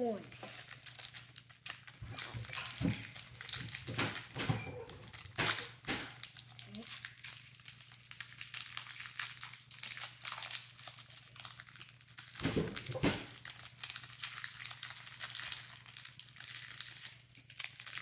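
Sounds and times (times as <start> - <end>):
foil wrapper crinkling: 0.0 - 18.0.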